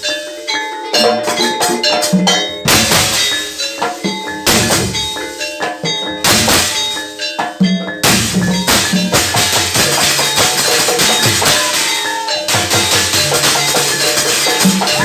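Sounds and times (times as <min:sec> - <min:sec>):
drum strokes: 0:00.0 - 0:15.0
ringing struck metal tones: 0:00.0 - 0:15.0.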